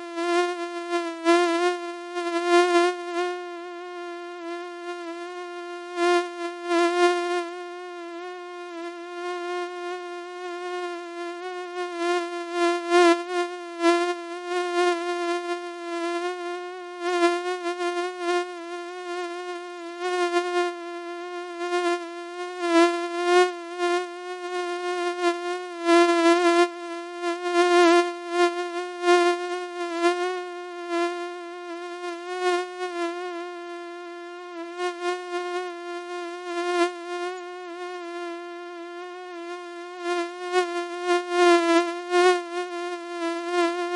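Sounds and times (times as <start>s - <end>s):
mosquito whine: 0.0s - 43.9s.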